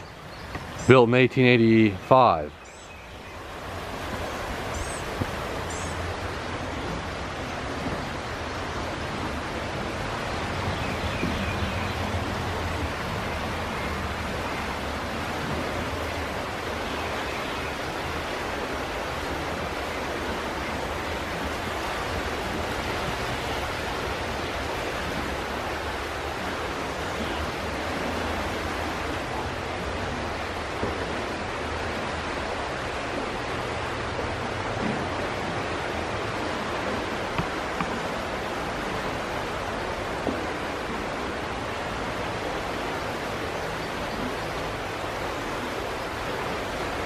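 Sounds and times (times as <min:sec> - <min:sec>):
rushing creek: 0:00.0 - 0:47.0.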